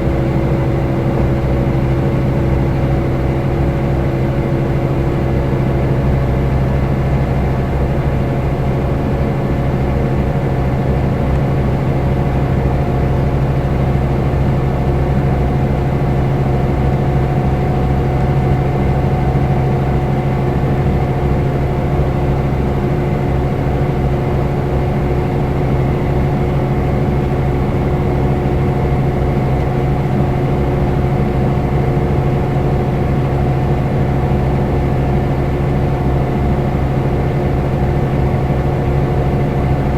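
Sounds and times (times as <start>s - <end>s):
coach engine running steadily: 0.0s - 39.9s.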